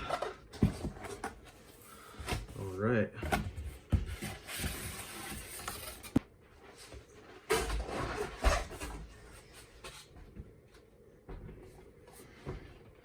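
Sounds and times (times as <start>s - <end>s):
cardboard and packing rustling: 0.0s - 10.6s.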